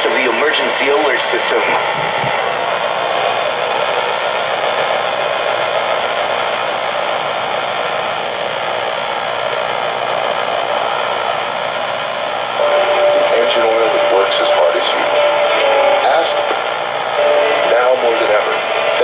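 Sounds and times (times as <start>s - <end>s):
radio static hiss: 0.8s - 19.0s.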